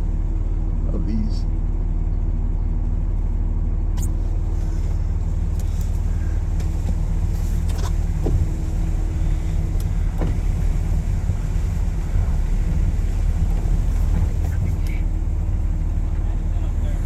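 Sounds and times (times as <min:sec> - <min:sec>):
vehicle engine and road drone: 0:00.0 - 0:17.0.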